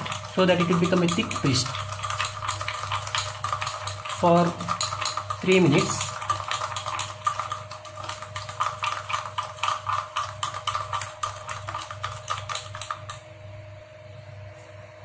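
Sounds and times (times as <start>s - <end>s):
metal spoon stirring in cup: 0.0s - 13.3s.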